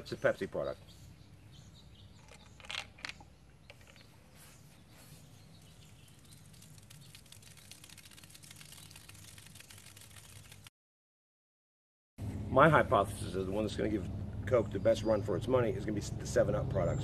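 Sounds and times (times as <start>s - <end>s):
birds chirping: 0.0s - 9.7s, 12.8s - 17.0s.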